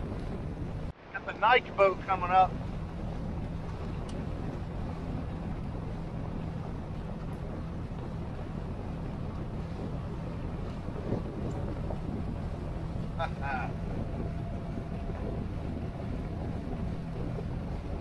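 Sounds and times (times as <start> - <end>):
boat engine droning: 0.0 - 18.0
water rushing past hull: 0.0 - 18.0
wind on microphone: 0.0 - 18.0.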